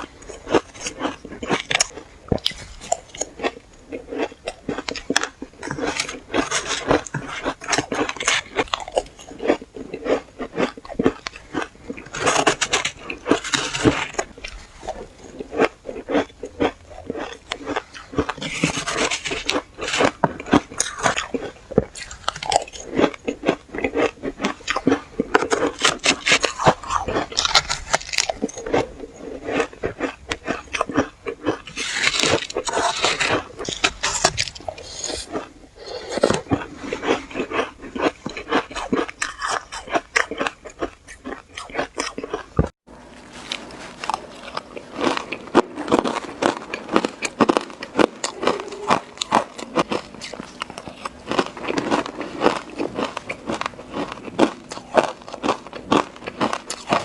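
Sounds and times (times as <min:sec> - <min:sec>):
chewing crunchy shaved ice: 0:00.0 - 0:57.0.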